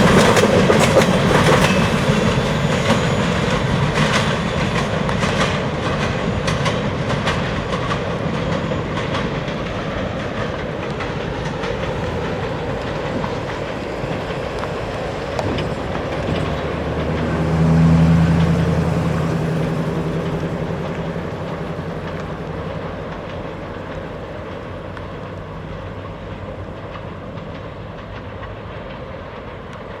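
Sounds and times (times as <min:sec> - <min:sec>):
freight train rolling past: 0:00.0 - 0:30.0
wheels clicking over rail joints: 0:00.0 - 0:30.0.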